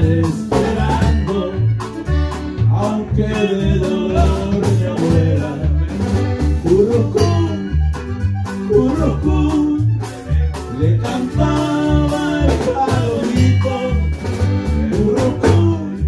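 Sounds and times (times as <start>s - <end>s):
instrumental melody: 0.0s - 16.0s
pulsing bass: 0.0s - 16.0s.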